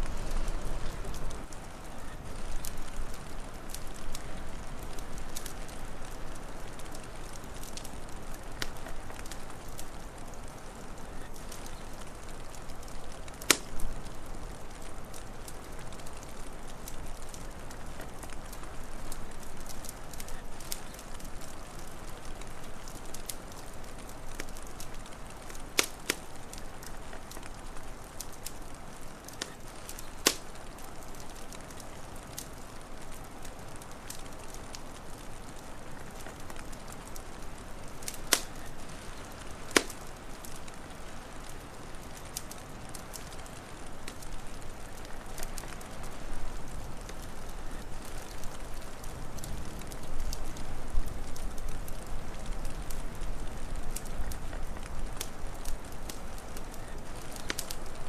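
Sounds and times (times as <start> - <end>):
steady low hiss: 0.0 - 58.0
wood fire crackling: 0.0 - 58.0.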